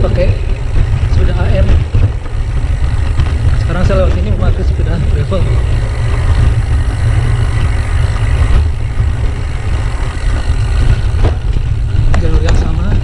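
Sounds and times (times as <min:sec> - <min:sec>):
bike knocks: 0:00.0 - 0:13.0
bike tyres rolling on dirt: 0:00.0 - 0:13.0
wind buffeting microphone: 0:00.0 - 0:13.0.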